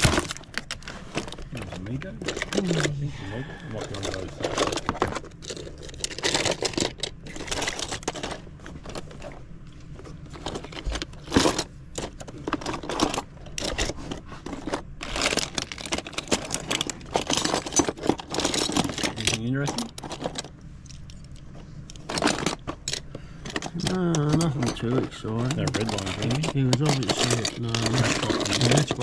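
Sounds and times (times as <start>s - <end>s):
toy cars clattering: 0.0s - 3.1s, 3.7s - 9.4s, 10.3s - 29.0s.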